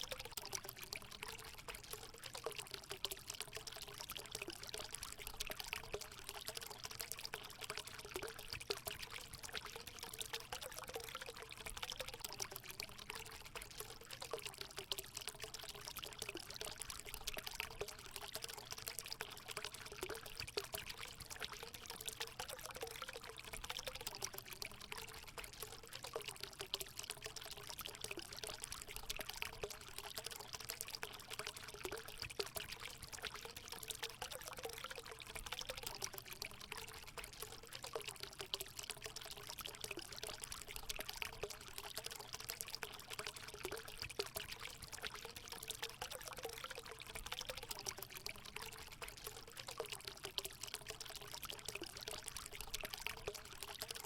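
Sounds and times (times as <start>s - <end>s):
water splashing into a pool: 0.0s - 54.0s.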